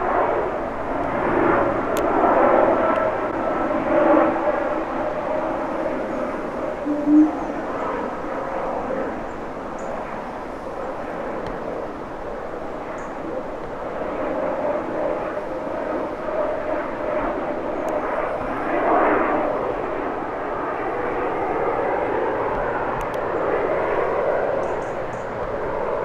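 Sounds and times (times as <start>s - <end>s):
jet airliner flying over: 0.0s - 26.0s.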